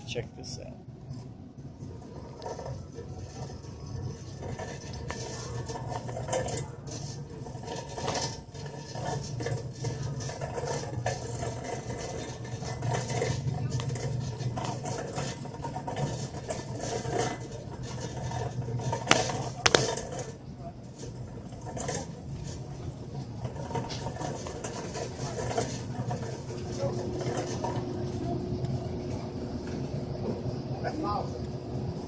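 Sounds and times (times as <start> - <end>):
shopping cart rattling: 1.9 - 28.4.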